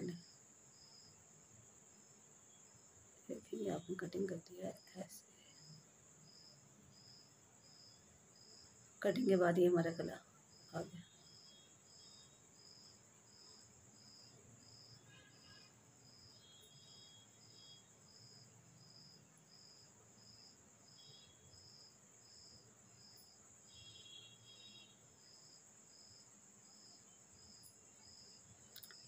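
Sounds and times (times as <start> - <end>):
high continuous insect trill: 0.0 - 29.0
insect chirping: 0.0 - 29.0.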